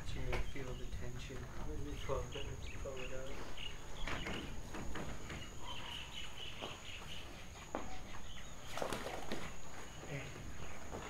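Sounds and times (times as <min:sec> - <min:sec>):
high insect whine: 0:00.0 - 0:11.0
faint bird chirps: 0:00.1 - 0:11.0.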